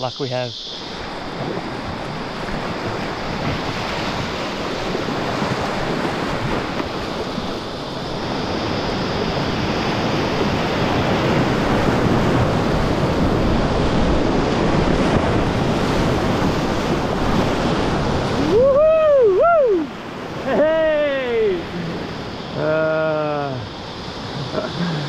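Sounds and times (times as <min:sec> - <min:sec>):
rushing river whitewater: 0:00.0 - 0:25.0.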